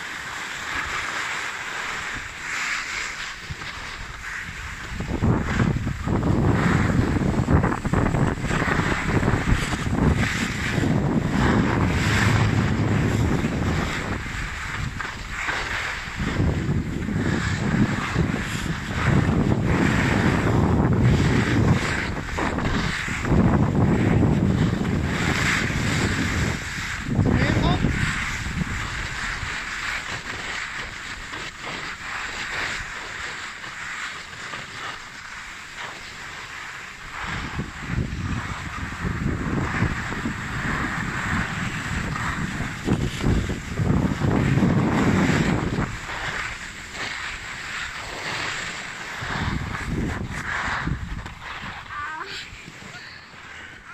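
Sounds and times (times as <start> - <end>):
skis scraping on hard snow: 0.0 - 53.9
wind rumbling on microphone: 0.0 - 53.9.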